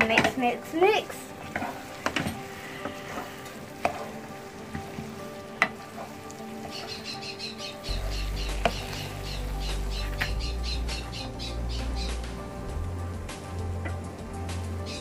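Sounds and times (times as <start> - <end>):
noodles sizzling in a frying pan: 0.0 - 15.0.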